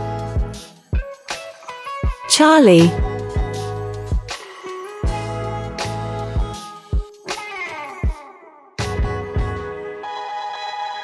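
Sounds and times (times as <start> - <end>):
background music with drum beat: 0.4 - 9.6.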